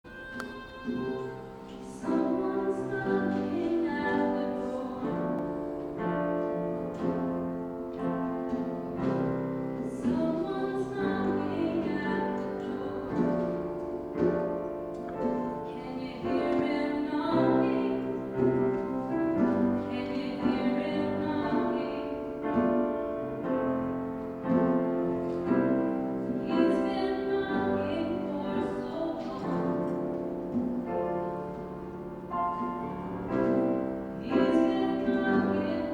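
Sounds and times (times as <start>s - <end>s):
piano accompaniment: 0.0s - 35.9s.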